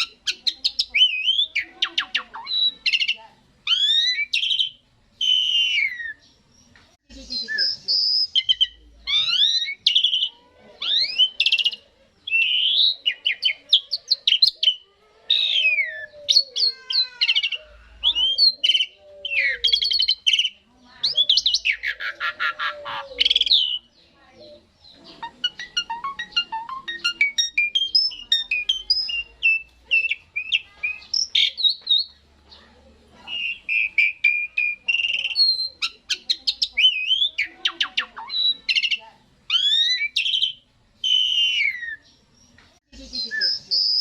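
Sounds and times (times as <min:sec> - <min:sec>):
starling singing: 0:00.0 - 0:44.0.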